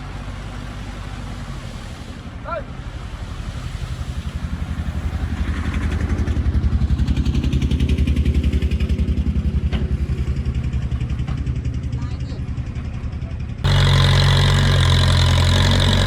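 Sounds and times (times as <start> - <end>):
diesel engine throbbing: 0.0 - 16.0.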